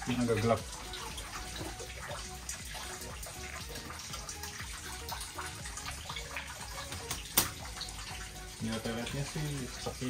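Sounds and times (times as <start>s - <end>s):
small drips and ticks: 0.0s - 10.0s
water running and splashing: 0.0s - 10.0s.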